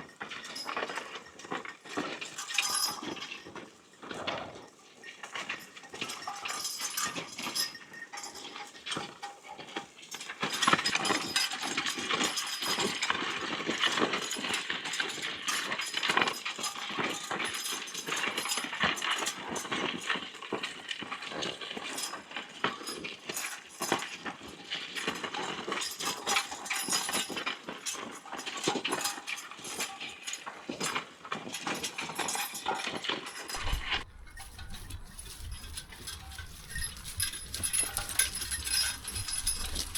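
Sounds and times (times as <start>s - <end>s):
harness chains jingling: 0.1s - 20.2s, 21.4s - 39.9s.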